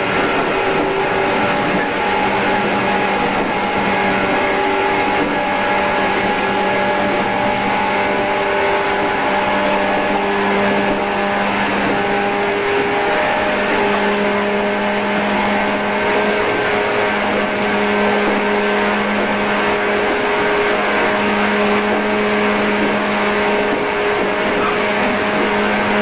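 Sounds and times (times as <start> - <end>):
motor and gear hum: 0.0 - 26.0
wheel and rail rolling noise: 0.0 - 26.0.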